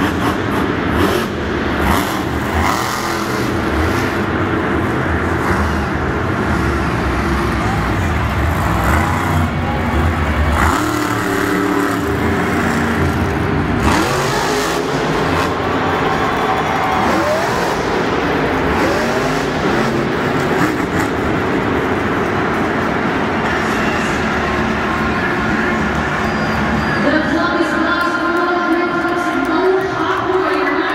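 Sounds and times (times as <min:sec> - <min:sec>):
monster truck engine revving: 0:00.0 - 0:30.9.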